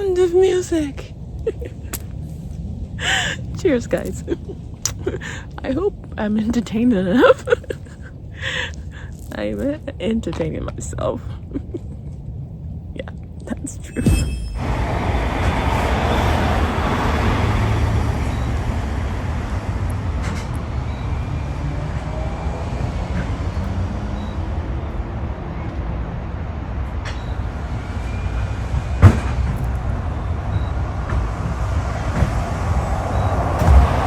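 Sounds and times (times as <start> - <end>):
low rumbling noise: 0.0 - 34.0.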